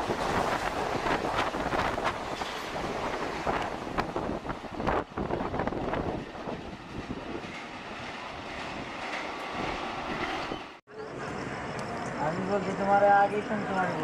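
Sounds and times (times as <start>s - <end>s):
train rushing past on rails: 0.0s - 14.0s.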